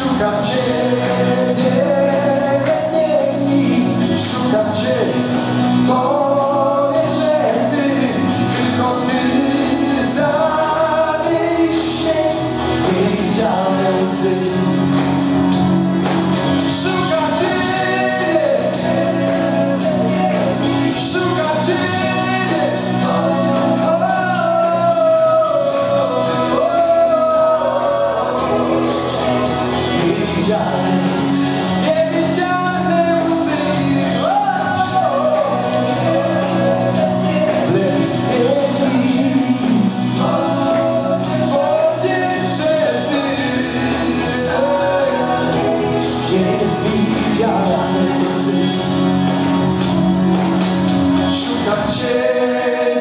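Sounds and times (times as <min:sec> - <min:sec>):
man singing into microphone: 0:00.0 - 0:15.6, 0:16.6 - 0:49.8, 0:51.1 - 0:53.0
instrumental backing: 0:00.0 - 0:53.0.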